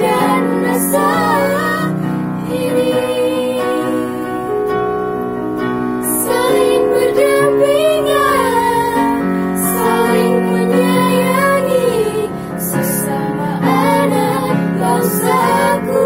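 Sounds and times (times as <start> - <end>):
girls' choir singing: 0.0 - 4.7, 6.0 - 16.0
electronic keyboard chords: 0.0 - 16.0.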